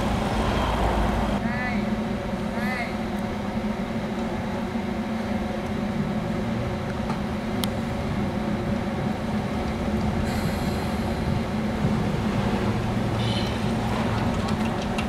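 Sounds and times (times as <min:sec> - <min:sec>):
tram mechanical hum and rumble: 0:00.0 - 0:15.0.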